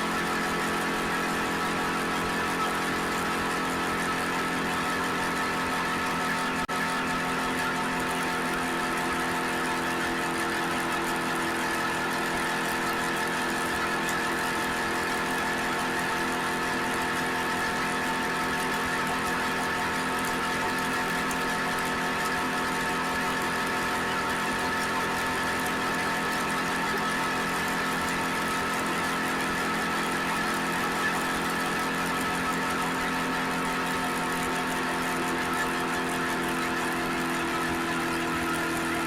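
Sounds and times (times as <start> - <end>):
motorcycle engine running steadily: 0.0 - 39.0.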